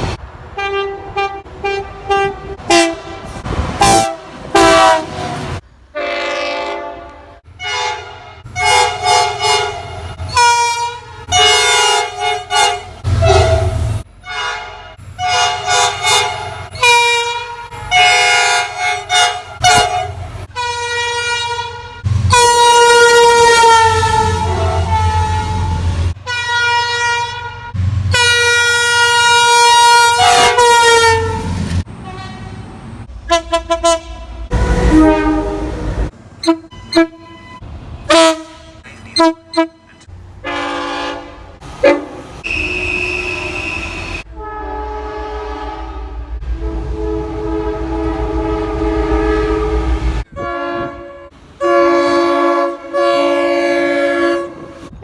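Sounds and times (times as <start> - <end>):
train horn blasts: 0.6 - 5.4, 6.0 - 32.6, 33.3 - 55.0.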